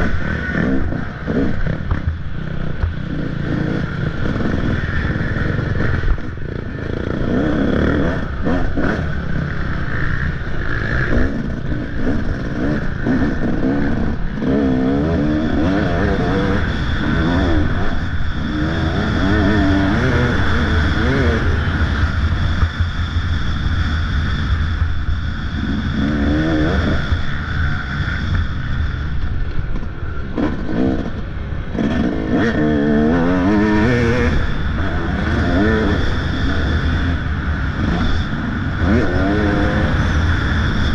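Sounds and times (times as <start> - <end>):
low rush of noise: 0.0 - 40.9
motocross bike engine revving: 0.0 - 40.9.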